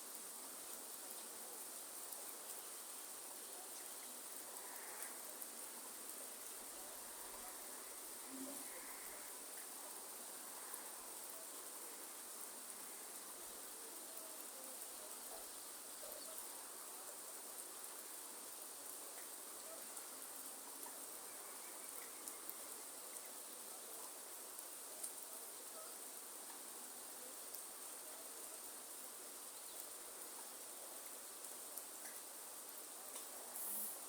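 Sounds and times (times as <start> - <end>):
hiss of falling rain: 0.0 - 34.0
small drip ticks: 0.1 - 34.0.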